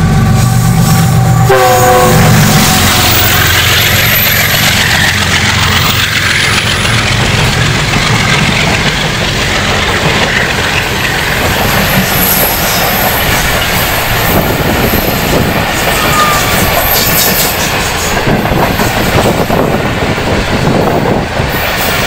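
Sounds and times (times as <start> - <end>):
train coaches rolling past: 0.0 - 22.0.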